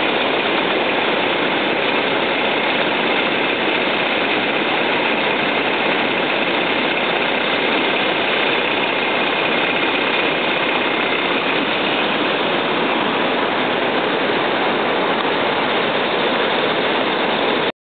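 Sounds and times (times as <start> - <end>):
river rushing through channel: 0.0 - 17.7.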